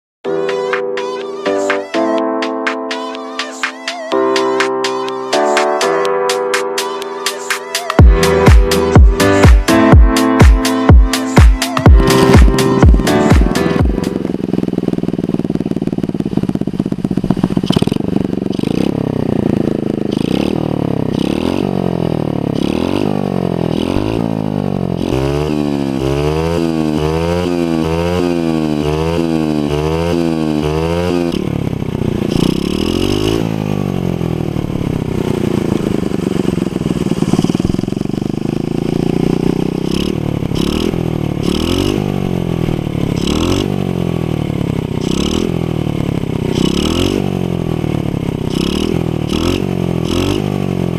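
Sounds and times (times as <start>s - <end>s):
motorbike engine revving: 8.0s - 50.9s.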